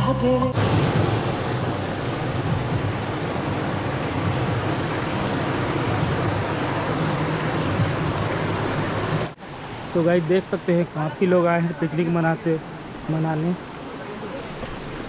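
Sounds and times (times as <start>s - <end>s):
waterfall rushing: 0.0s - 15.0s
low water rumble: 0.5s - 15.0s.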